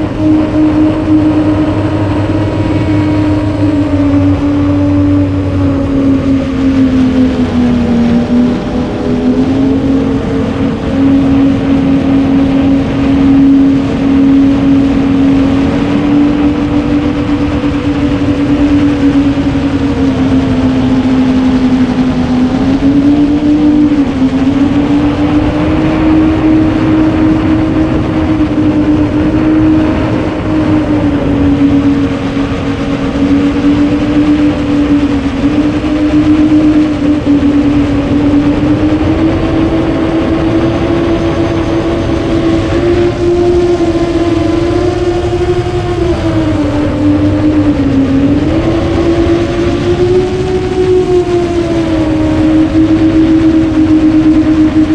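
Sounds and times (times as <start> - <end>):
drone motors buzzing: 0.0 - 54.9
wind rushing past camera: 0.0 - 54.9.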